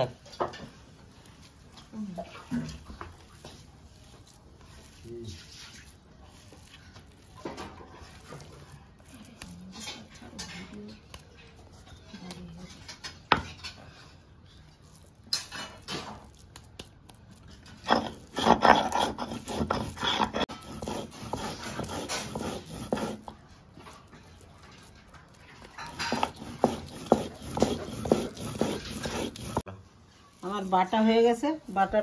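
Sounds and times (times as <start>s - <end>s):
stone roller grinding on stone: 0.0s - 29.7s.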